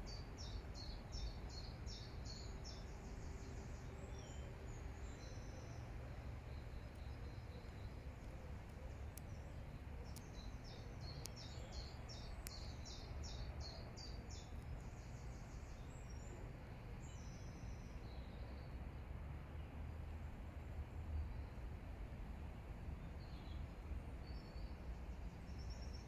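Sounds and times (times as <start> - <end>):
songbird singing high repeated notes: 0.0 - 18.8, 22.8 - 26.0
low outdoor rumble: 0.0 - 26.0.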